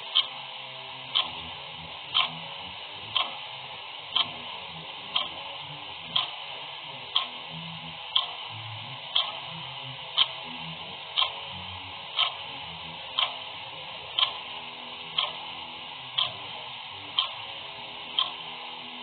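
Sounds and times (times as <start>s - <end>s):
clock ticking: 0.0s - 0.4s, 1.1s - 19.0s.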